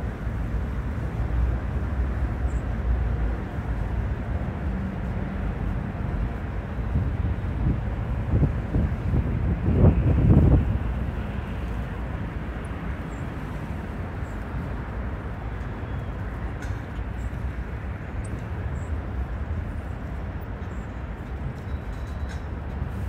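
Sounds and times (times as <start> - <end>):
low outdoor background rumble: 0.0 - 23.0.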